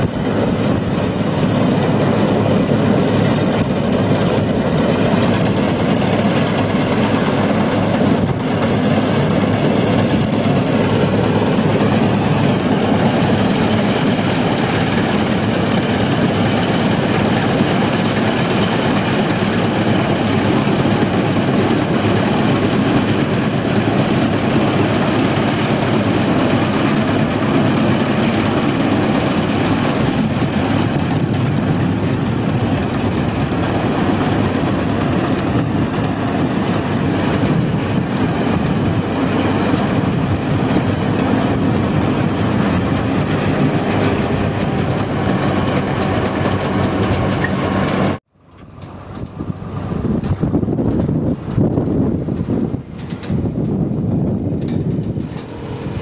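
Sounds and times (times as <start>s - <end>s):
combine harvester clatter: 0.0s - 56.0s.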